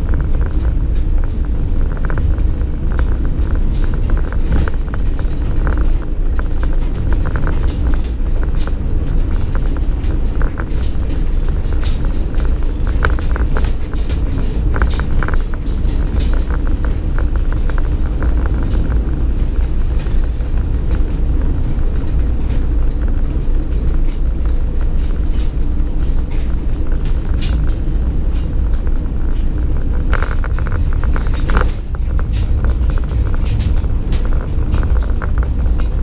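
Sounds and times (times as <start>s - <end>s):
low road rumble: 0.0s - 36.0s
trailer body creaking and knocking: 0.0s - 36.0s.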